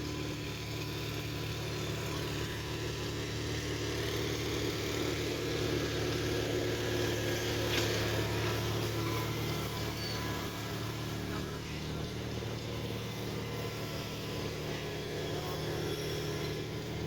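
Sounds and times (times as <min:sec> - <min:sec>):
garden tractor engine running: 0:00.0 - 0:17.0.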